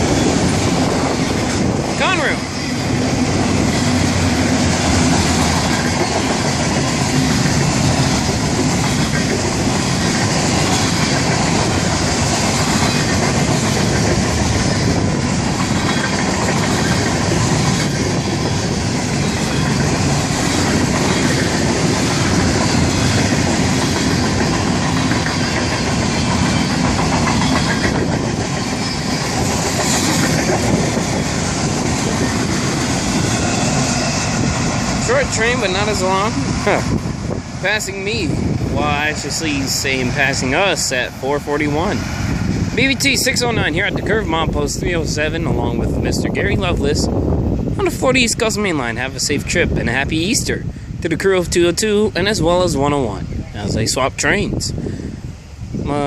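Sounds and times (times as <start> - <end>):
wheels clacking over rail joints: 0.0 - 45.6
freight train wheels rumbling on rail: 0.0 - 56.0.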